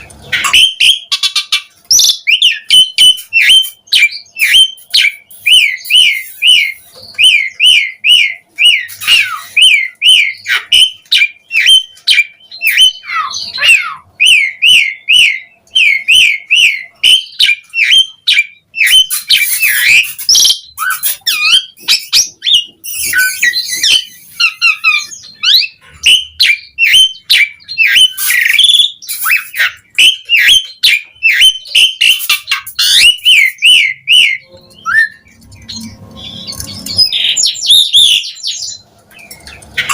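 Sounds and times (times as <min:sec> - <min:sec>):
scratchy bird chattering: 0:00.0 - 0:39.9
starling whistled notes: 0:02.0 - 0:38.4.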